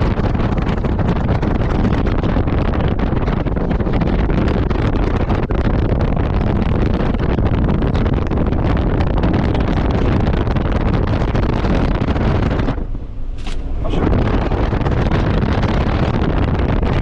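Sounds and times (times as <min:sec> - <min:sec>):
vehicle engine rumble: 0:00.0 - 0:17.0
wind buffeting the microphone: 0:00.0 - 0:17.0.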